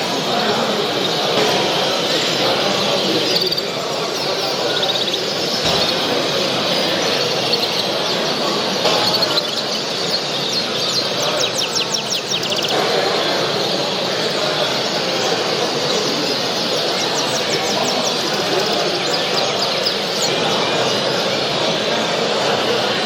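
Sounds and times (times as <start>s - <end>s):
crowd din in a hall: 0.0s - 23.0s
finches chirping and singing: 0.0s - 23.0s.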